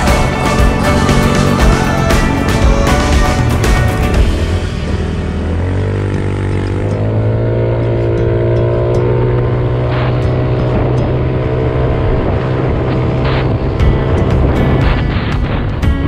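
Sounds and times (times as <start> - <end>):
motorcycle engine pulling away: 0.0 - 16.0
road and wind noise: 0.0 - 16.0.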